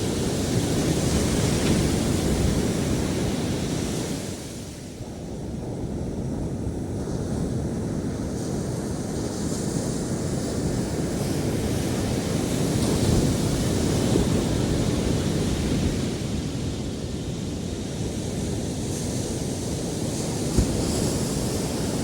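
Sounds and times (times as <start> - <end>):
waves breaking on sand: 0.0 - 22.0.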